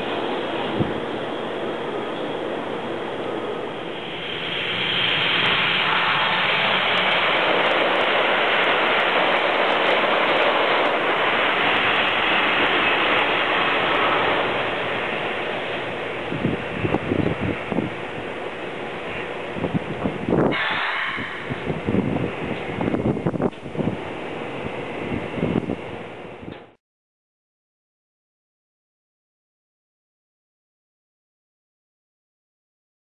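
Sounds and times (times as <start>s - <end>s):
train rushing past: 0.0s - 26.8s.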